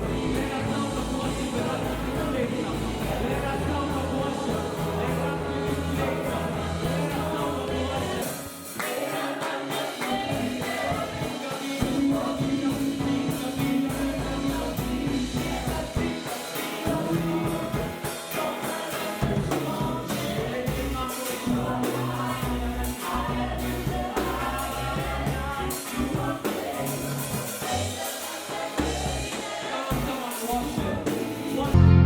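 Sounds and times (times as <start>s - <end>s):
bass and percussion: 0.0s - 32.0s
group of voices singing: 0.0s - 32.0s.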